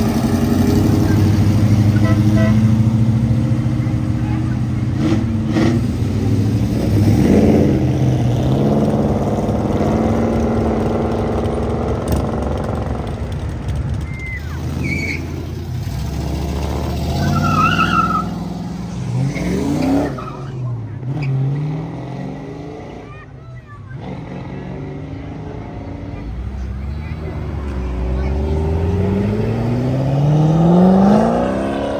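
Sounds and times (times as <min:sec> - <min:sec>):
car engine pulling away: 0:00.0 - 0:23.2, 0:23.9 - 0:31.9
car engine revving: 0:00.0 - 0:23.2, 0:23.8 - 0:31.9.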